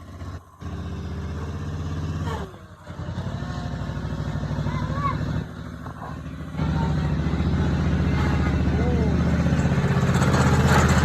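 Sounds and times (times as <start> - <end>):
riding lawnmower engine running: 0.0 - 11.0.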